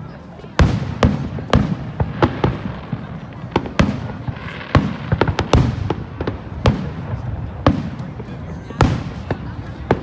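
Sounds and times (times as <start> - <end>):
fireworks bangs: 0.3 - 10.0.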